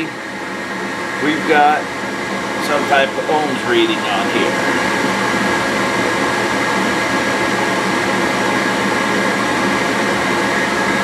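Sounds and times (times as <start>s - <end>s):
furnace inducer motor whoosh: 0.0s - 11.0s
thin steady whine: 0.0s - 11.0s.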